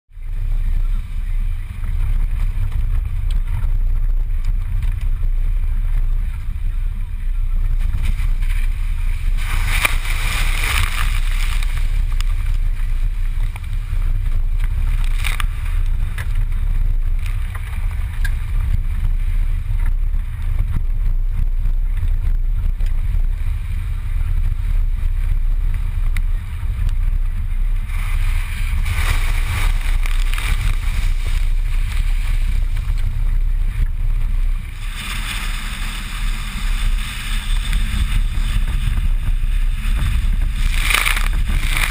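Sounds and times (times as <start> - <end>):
car engine rumble: 0.1 - 41.9
hissing tyre noise: 0.1 - 41.9
wind buffeting: 0.2 - 41.9.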